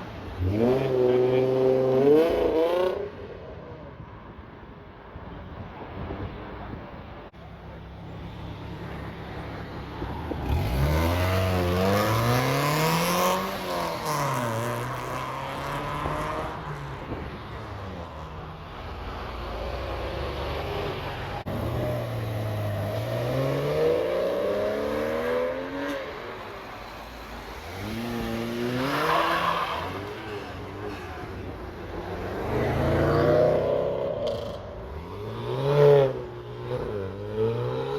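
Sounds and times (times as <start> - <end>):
car engines accelerating hard: 7.4 - 37.9.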